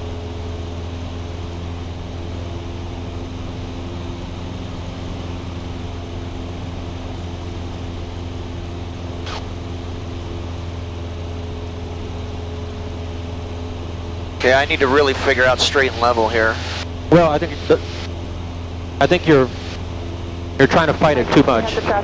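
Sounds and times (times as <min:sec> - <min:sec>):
light aircraft engine and propeller droning: 0:00.0 - 0:22.0.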